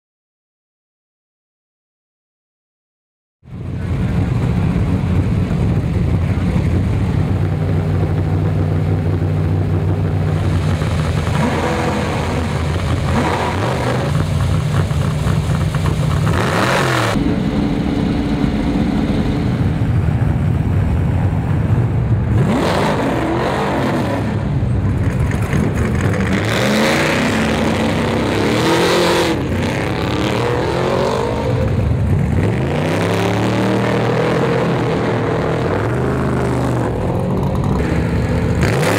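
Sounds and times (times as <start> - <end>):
race truck engines revving: 3.5 - 38.9.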